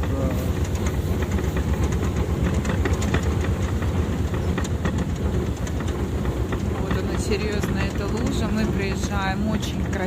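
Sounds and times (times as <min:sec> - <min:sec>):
vehicle body rattling and clanking: 0:00.0 - 0:10.0
vehicle engine deep rumble: 0:00.0 - 0:10.0.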